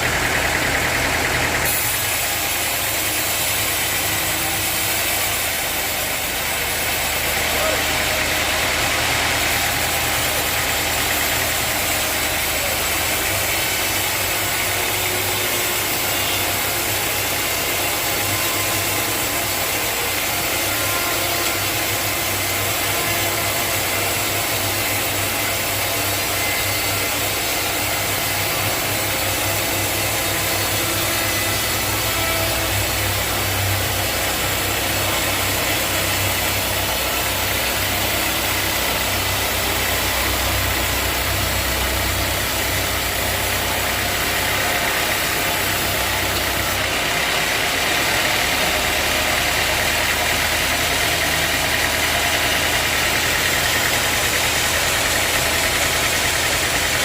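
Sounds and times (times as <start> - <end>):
machinery hiss: 1.6 - 57.0.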